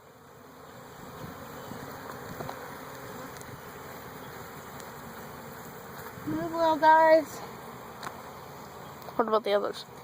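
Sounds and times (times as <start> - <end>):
honeybees buzzing: 0.0 - 10.0.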